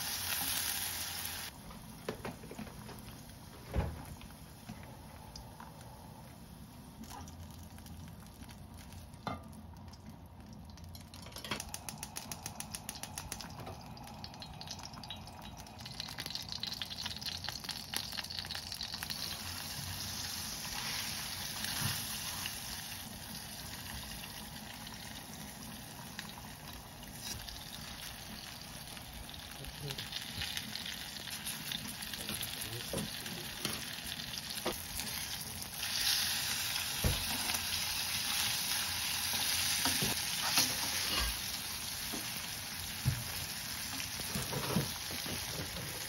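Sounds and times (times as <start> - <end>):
stew boiling and sizzling: 0.0 - 46.0.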